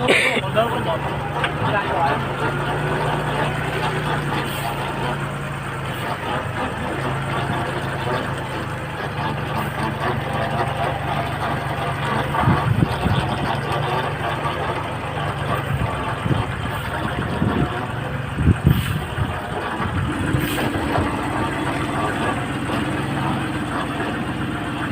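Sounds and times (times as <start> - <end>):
higher steady engine tone: 0.0 - 24.9
tractor engine running: 0.0 - 24.9
knocks and clunks: 1.0 - 24.9.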